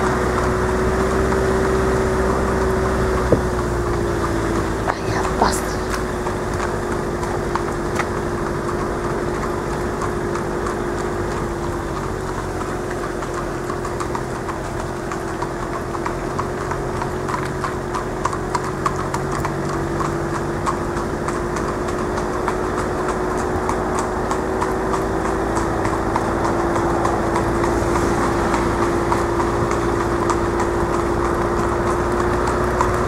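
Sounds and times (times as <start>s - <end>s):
horse hooves trotting on tarmac: 0.0s - 33.0s
vehicle engine humming: 0.0s - 33.0s.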